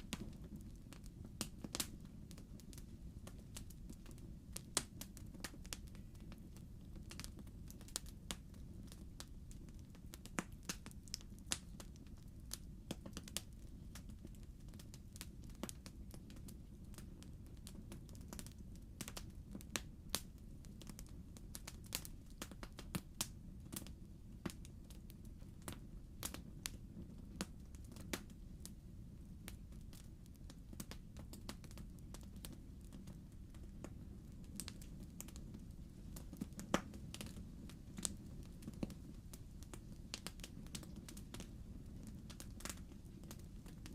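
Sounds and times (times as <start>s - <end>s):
logs crackling and popping: 0.0s - 43.9s
low rumble of flames: 0.0s - 43.9s.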